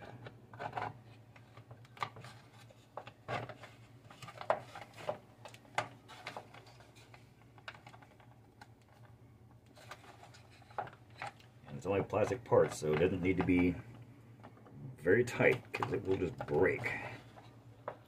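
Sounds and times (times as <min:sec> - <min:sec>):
plastic parts knocking: 0:00.0 - 0:18.0.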